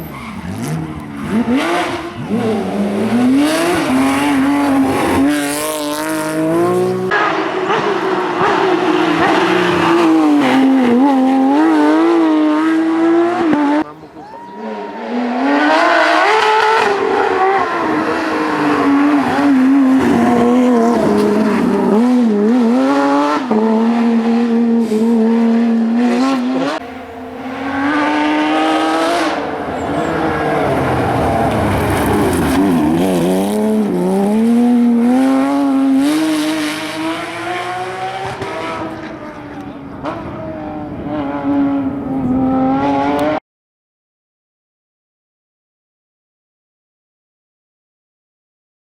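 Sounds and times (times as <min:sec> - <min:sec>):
racing engine revving: 0:00.0 - 0:14.0, 0:14.6 - 0:43.4.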